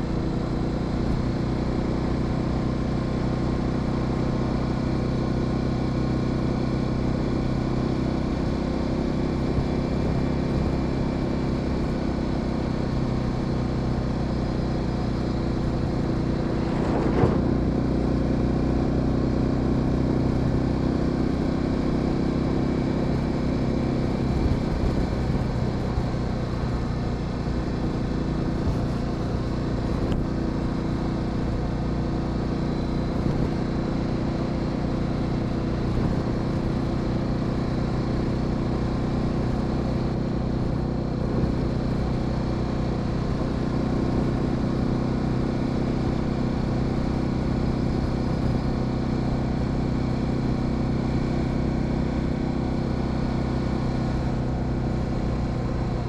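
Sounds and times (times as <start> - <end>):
motorcycle engine running: 0.0 - 56.0
road and tyre noise: 0.0 - 56.0.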